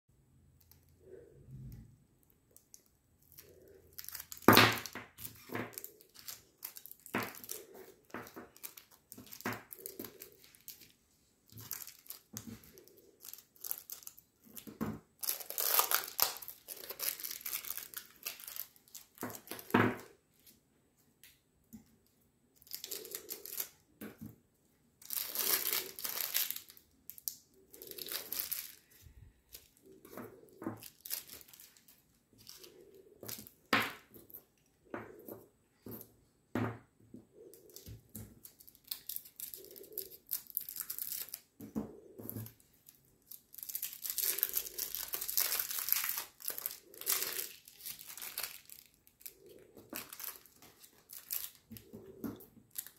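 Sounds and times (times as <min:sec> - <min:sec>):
plastic wrappers crinkling: 0:00.4 - 0:20.5, 0:22.6 - 0:24.3, 0:25.0 - 0:34.5, 0:37.5 - 0:52.9.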